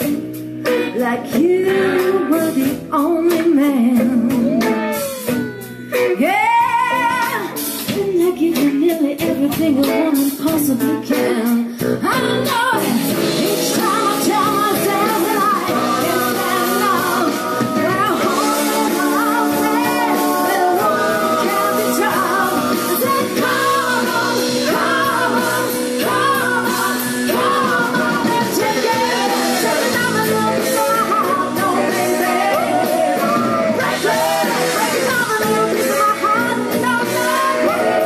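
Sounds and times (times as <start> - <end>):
person singing: 0.0 - 38.0
rock band playing: 0.0 - 38.0.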